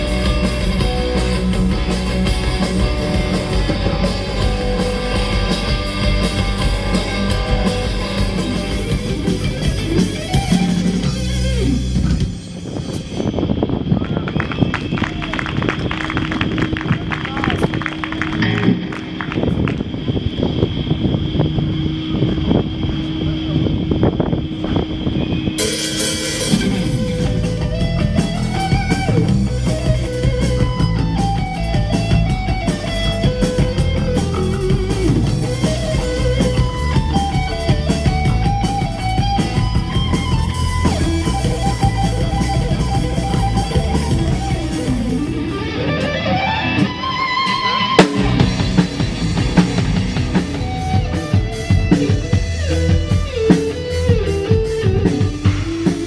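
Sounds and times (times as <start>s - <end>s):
electric guitar melody: 0.0s - 13.7s, 15.0s - 56.0s
rock band playing: 0.0s - 56.0s.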